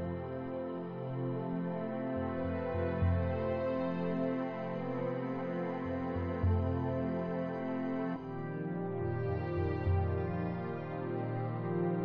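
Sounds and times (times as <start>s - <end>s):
calm ambient instrumental music: 0.0s - 12.0s.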